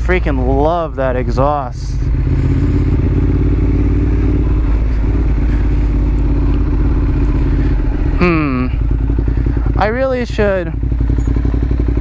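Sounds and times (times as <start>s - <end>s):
motorcycle exhaust at low revs: 0.0s - 12.0s.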